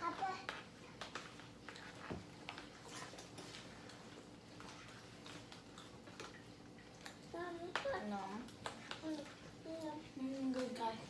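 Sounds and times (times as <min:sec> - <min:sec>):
faint clicks and taps: 0:00.0 - 0:11.0.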